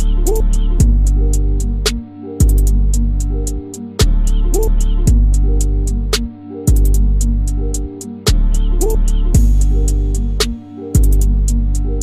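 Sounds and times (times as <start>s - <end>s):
deep bass notes: 0.0s - 12.0s.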